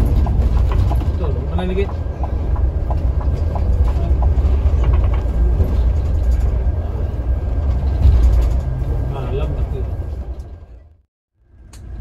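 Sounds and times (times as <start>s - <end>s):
coach engine rumble: 0.0s - 12.0s
road noise: 0.0s - 12.0s.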